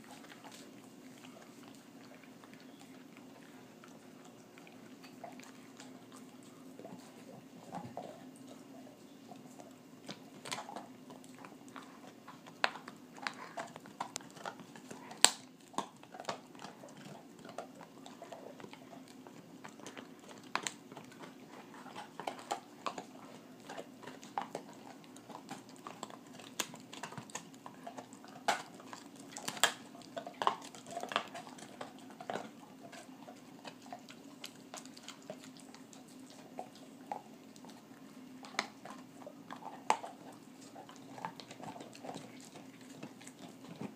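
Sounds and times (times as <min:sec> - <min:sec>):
dog gnawing bone: 0:00.0 - 0:43.9.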